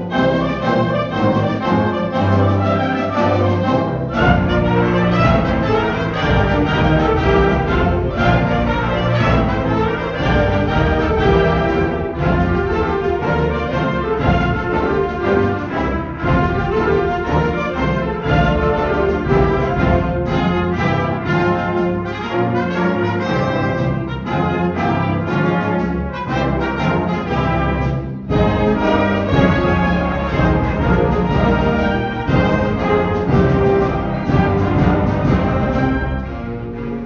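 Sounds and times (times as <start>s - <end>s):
concert band playing: 0.0s - 37.0s.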